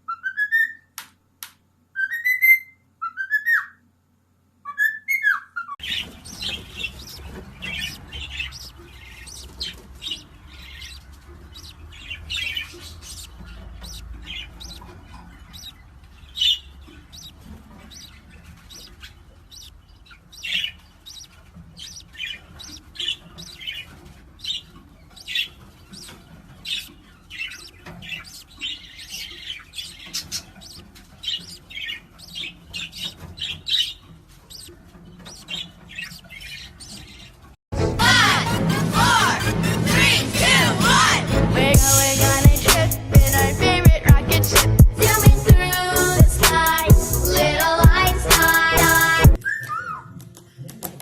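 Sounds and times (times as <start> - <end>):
parrot chirping and squawking: 0.0 - 0.9, 2.0 - 3.8, 4.6 - 37.4, 44.3 - 50.1.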